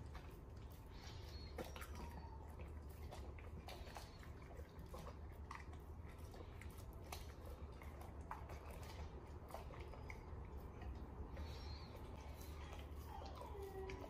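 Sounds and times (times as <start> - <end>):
dog chewing and licking: 0.0 - 14.0.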